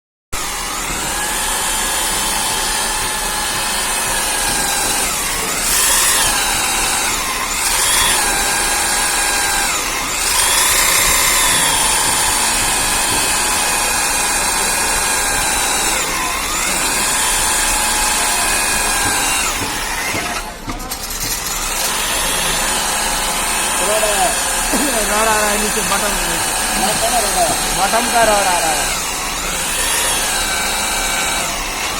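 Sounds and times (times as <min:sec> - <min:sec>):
core drill motor whine: 0:00.4 - 0:31.9.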